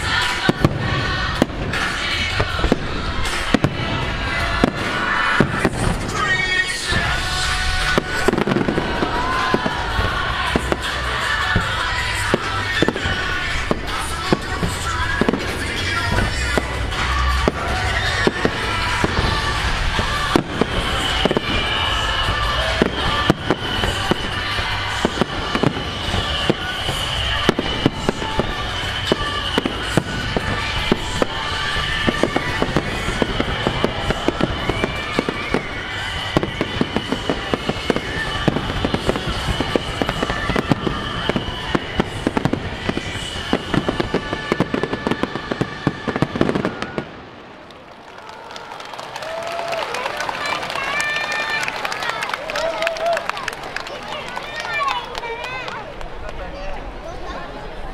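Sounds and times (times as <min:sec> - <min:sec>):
music playing: 0:00.0 - 0:47.0
fireworks bangs and crackling: 0:00.0 - 0:57.9.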